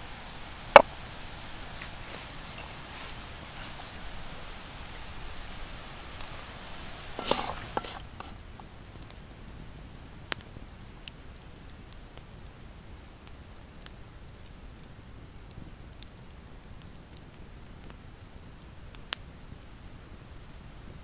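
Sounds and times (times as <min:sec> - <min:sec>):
wood fire crackling and popping: 0:00.7 - 0:05.0, 0:06.0 - 0:19.9.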